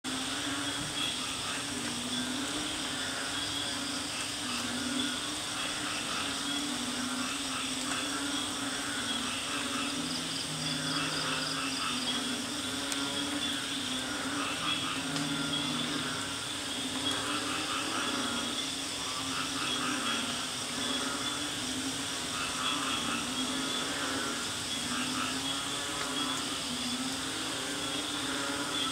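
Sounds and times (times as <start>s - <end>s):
frogs calling: 0.1s - 28.9s
insects trilling: 0.1s - 28.9s.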